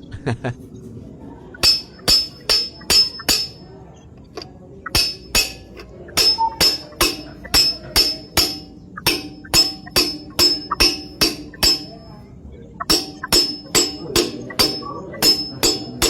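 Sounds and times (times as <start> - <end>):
hammer striking metal drift: 1.6 - 3.7, 4.4 - 12.2, 12.8 - 16.0.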